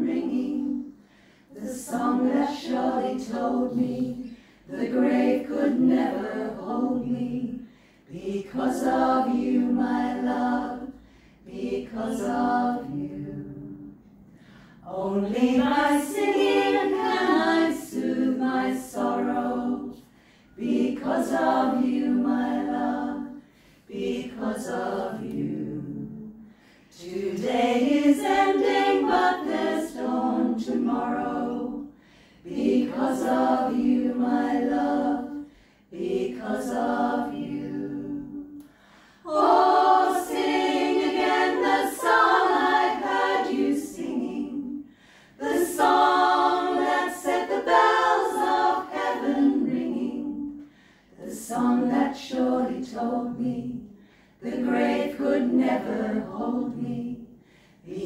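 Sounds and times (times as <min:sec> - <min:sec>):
women's choir singing: 0:00.0 - 0:14.1, 0:14.7 - 0:58.0.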